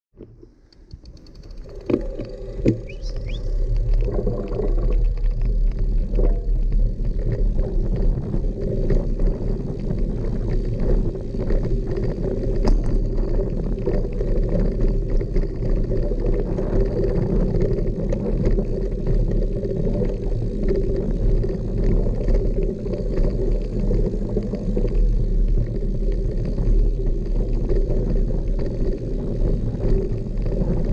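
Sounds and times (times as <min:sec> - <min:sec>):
bike tyres rumbling on dirt: 0:00.4 - 0:30.9
bike rattling over bumps: 0:01.0 - 0:30.9.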